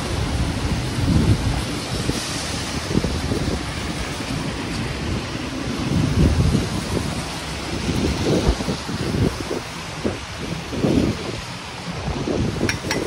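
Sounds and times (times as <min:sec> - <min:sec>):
rain hiss: 0:00.0 - 0:13.0
wind gusting against microphone: 0:00.0 - 0:13.0.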